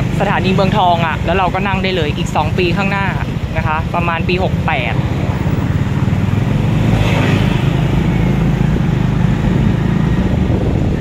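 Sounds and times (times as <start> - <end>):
motorcycle engine rumbling: 0.0 - 11.0
road and wind noise: 0.0 - 11.0.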